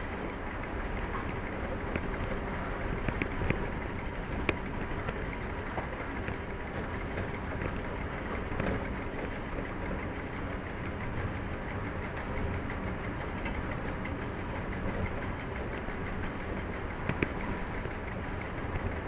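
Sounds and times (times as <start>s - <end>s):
locomotive cab running noise: 0.0s - 19.0s.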